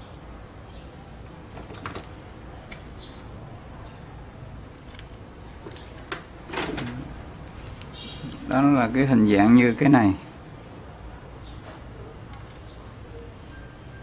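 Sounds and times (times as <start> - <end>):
steady low background noise: 0.0 - 14.0.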